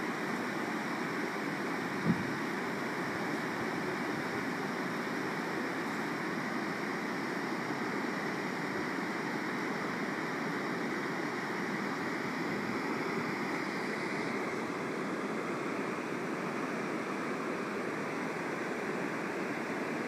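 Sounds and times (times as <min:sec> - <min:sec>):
water pouring over a dam spillway: 0:00.0 - 0:20.0.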